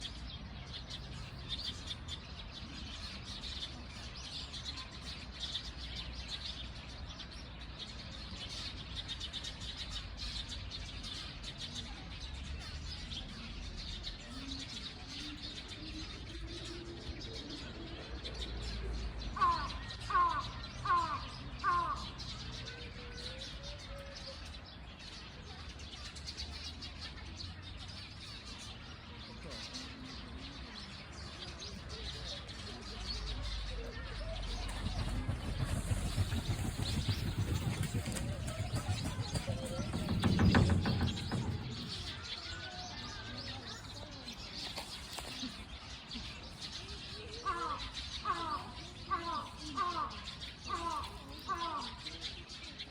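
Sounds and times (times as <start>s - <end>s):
birds chirping: 0.0s - 52.9s
loud clear bird calls: 0.0s - 52.9s.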